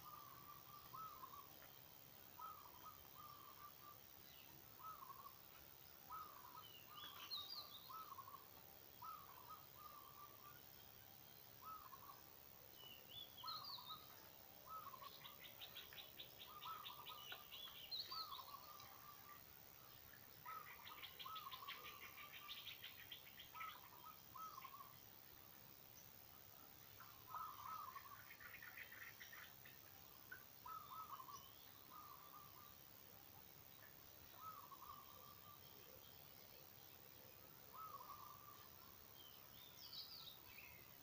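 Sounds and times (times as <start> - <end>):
birds chirping: 0.0 - 26.2, 26.8 - 32.8, 33.6 - 41.0.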